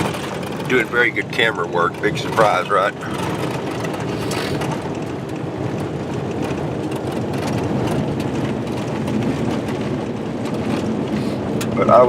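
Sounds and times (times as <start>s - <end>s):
small knocks and rattles: 0.0s - 11.8s
truck engine and tyre noise: 0.0s - 12.0s.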